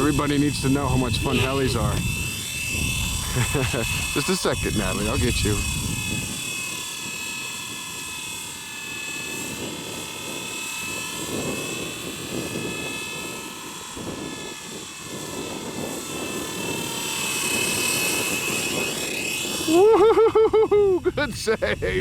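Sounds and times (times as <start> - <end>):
rc helicopter rotor whine: 0.0 - 22.0.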